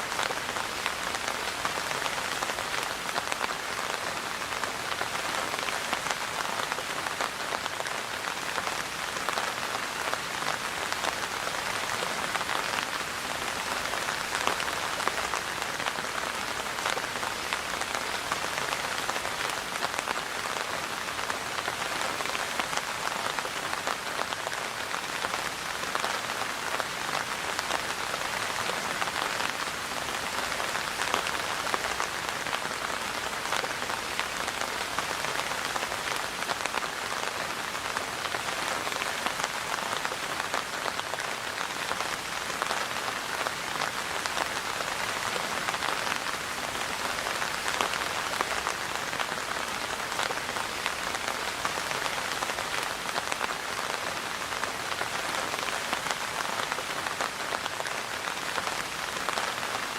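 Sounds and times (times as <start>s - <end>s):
steady rain pattering: 0.0s - 59.9s.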